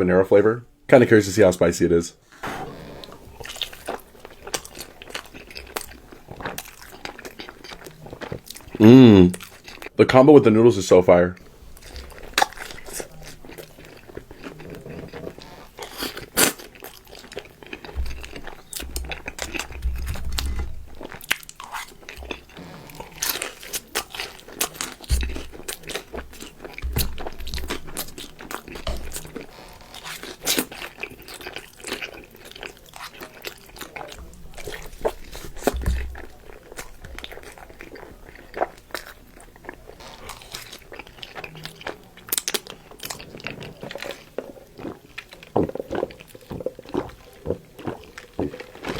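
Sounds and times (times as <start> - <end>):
crunchy chewing of chicken wings: 2.4 - 10.0, 11.4 - 48.9.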